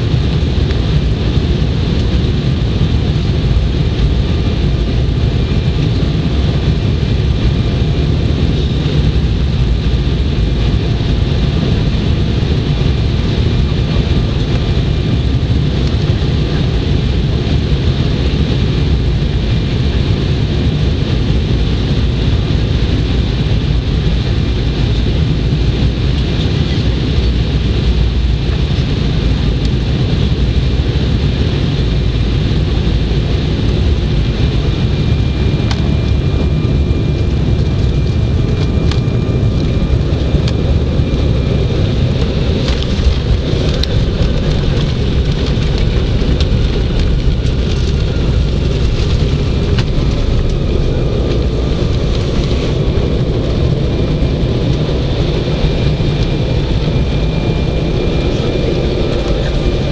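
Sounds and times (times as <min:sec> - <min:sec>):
jet engine rumble and airflow: 0:00.0 - 0:59.9.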